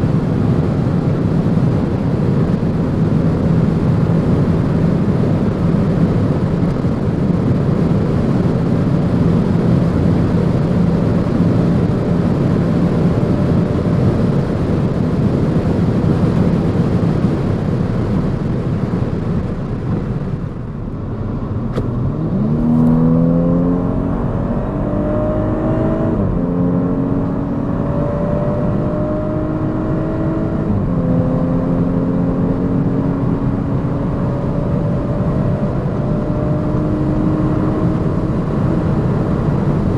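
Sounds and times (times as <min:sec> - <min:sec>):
car engine accelerating: 0:00.0 - 0:39.9
wind and tyre noise: 0:00.0 - 0:39.9.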